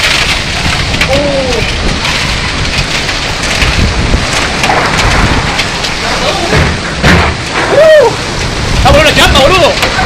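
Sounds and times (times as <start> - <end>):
hailstones striking hard surfaces: 0.0 - 10.0
heavy rain downpour: 0.0 - 10.0.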